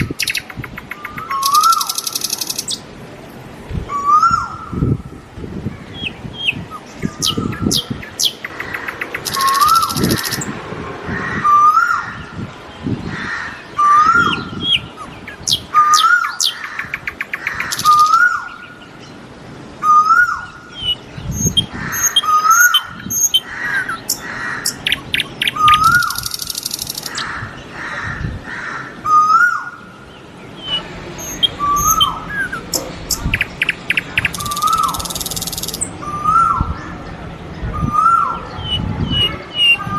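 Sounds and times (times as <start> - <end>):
birds chirping and trilling: 0.0 - 2.9, 3.9 - 39.9.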